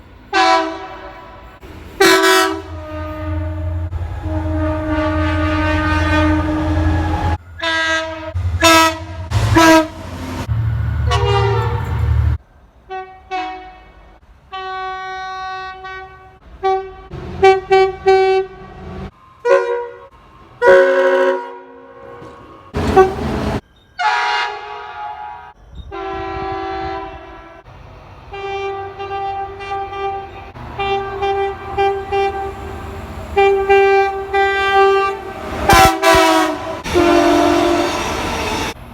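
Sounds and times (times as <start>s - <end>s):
low train rumble: 0.0s - 38.9s
train air horn blasts: 0.3s - 27.7s, 28.3s - 32.7s, 33.4s - 38.8s.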